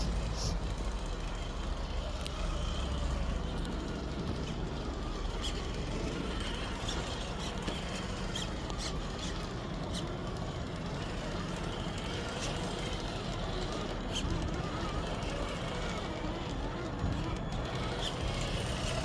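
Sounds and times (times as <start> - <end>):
distant highway traffic rumble: 0.0 - 19.0.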